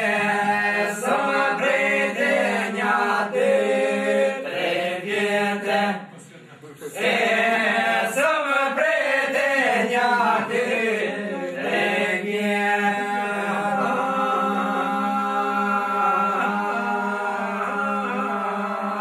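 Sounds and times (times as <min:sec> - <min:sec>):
men singing a drone: 0:00.0 - 0:06.1, 0:06.9 - 0:19.0.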